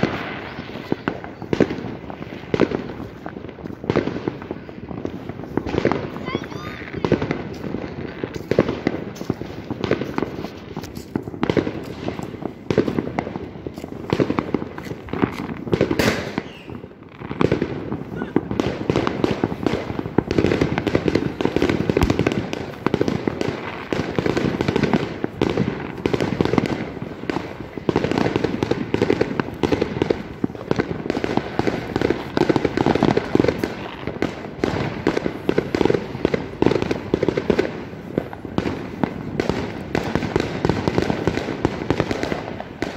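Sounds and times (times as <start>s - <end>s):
fireworks crackling and banging: 0.0s - 42.9s.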